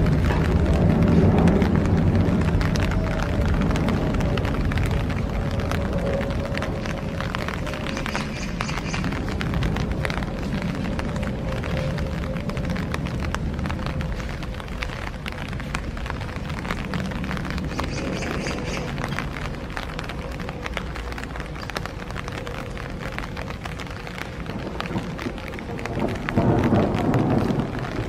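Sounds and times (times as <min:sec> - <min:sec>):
raindrop ticks: 0:00.0 - 0:28.0
wind buffeting microphone: 0:00.0 - 0:28.0.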